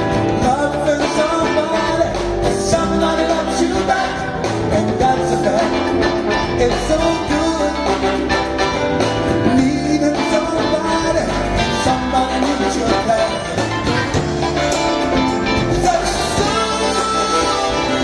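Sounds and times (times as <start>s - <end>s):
live band playing: 0.0s - 18.0s
man singing into a microphone: 0.3s - 8.3s, 9.4s - 14.2s, 15.7s - 18.0s.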